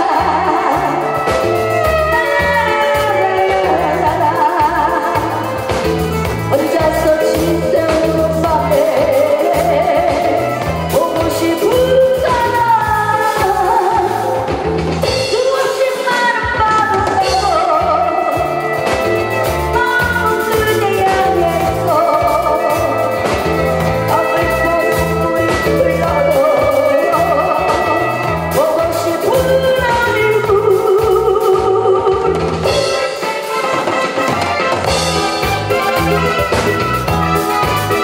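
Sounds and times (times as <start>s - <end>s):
woman singing: 0.0s - 33.3s
backing music with bass and drums: 0.0s - 38.0s.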